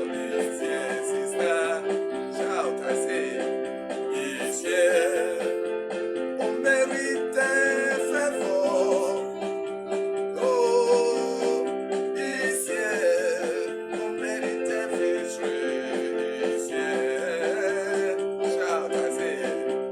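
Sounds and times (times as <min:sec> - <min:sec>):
held chords: 0:00.0 - 0:19.9
person singing with vibrato: 0:00.0 - 0:19.9.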